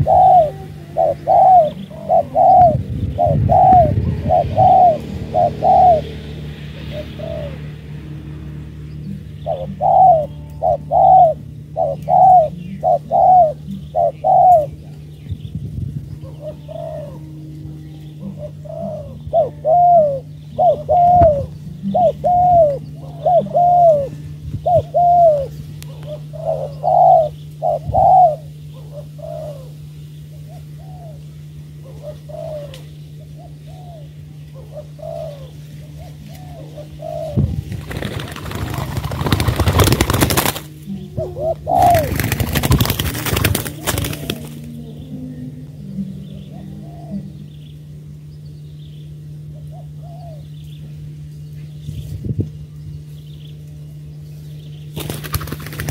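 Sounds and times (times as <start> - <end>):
doves cooing: 0.0 - 52.1, 54.8 - 55.9
steady low hum: 0.0 - 55.9.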